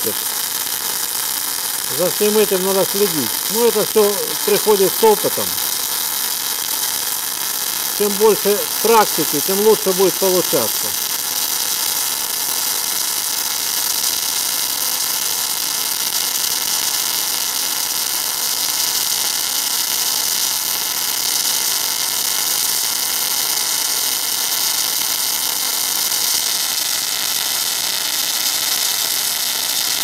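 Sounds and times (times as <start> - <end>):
welding arc crackling: 0.0 - 30.0.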